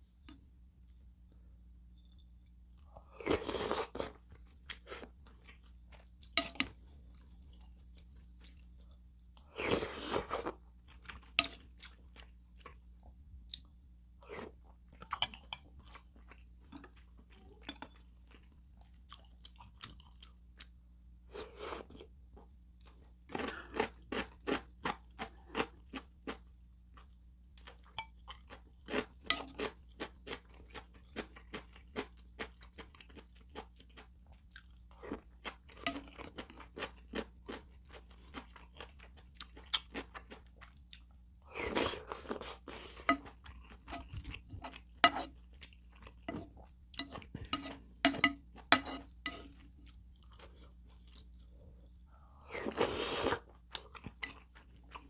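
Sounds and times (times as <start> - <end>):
close chewing and crunching: 2.8 - 20.8, 21.8 - 55.0.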